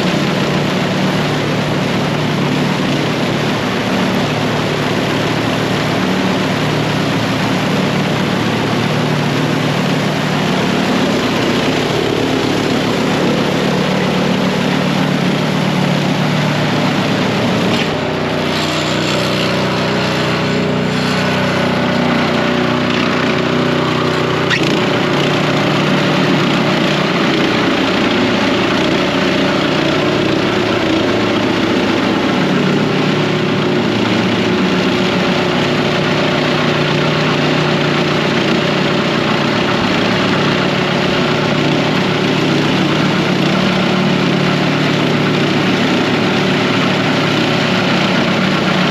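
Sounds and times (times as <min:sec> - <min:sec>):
snow blower engine running: 0:00.0 - 0:48.9.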